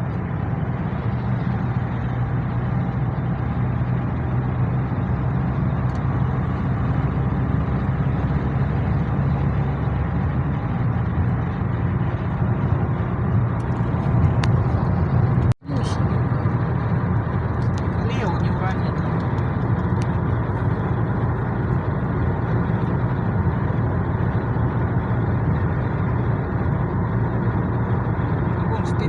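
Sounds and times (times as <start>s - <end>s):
car engine hum: 0.0s - 29.0s.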